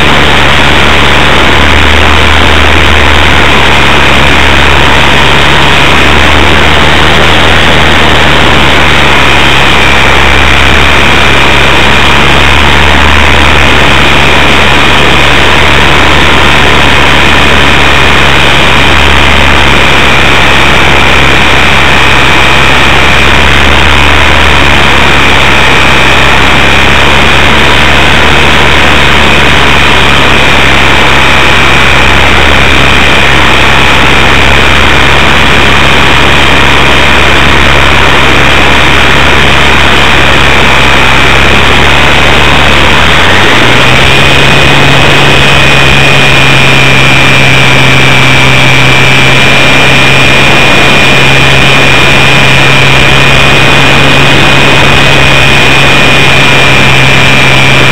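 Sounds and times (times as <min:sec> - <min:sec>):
low drone: 0:00.0 - 0:57.9
model plane motor whine: 0:00.0 - 0:57.9
rushing wind noise: 0:00.0 - 0:57.9.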